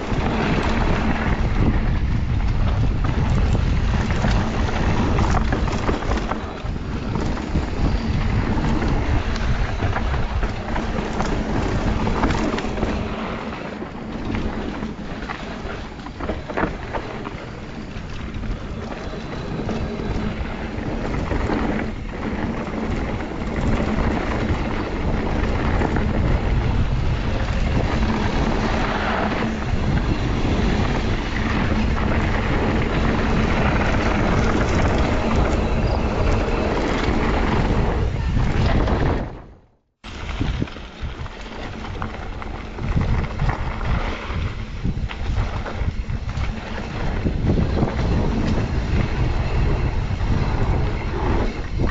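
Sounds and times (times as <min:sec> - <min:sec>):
tyres on dirt: 0:00.0 - 0:39.4, 0:40.0 - 0:51.9
bike rattling over bumps: 0:00.0 - 0:51.9
wind buffeting microphone: 0:00.0 - 0:51.9.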